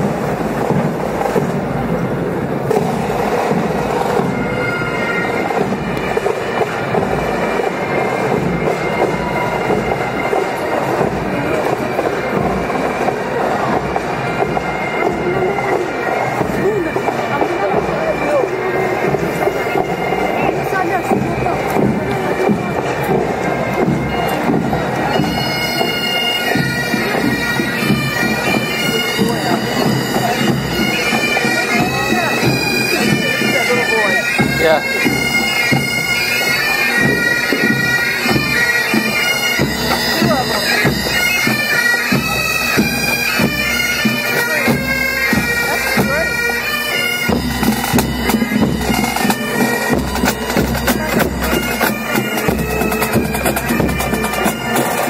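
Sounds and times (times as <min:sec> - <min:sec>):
bagpipes playing a melody: 0:00.0 - 0:55.0
steady drumming: 0:00.0 - 0:55.0.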